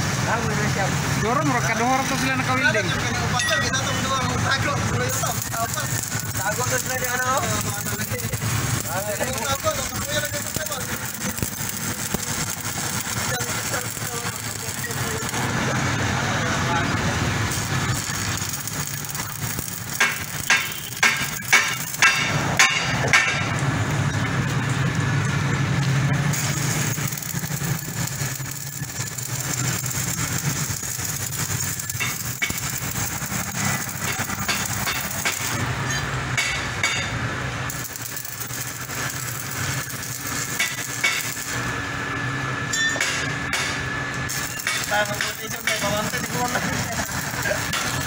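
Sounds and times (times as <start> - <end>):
welding arc crackling and hissing: 0.0 - 48.0
sharp arc cracks: 4.4 - 16.1, 16.7 - 23.7, 26.2 - 41.8, 43.2 - 48.0.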